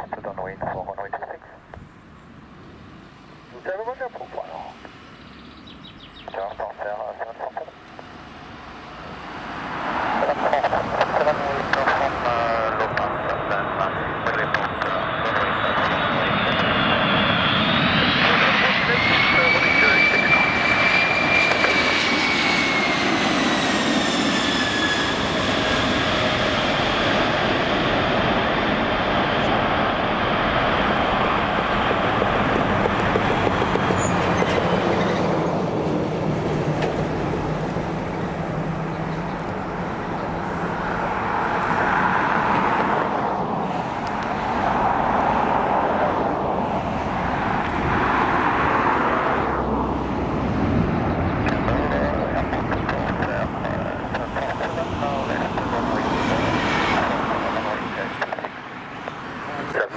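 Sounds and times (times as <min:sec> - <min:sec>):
jet engine roar and whine: 0:00.0 - 0:59.9.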